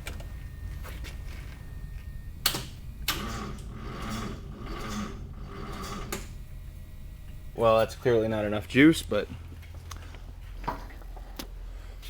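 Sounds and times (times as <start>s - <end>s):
electric fuel pump humming: 0.0s - 11.0s.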